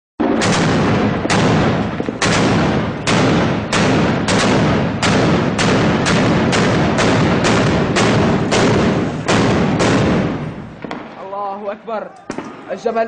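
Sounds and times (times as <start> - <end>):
heavy weapon firing loud blasts: 0.2 - 11.2.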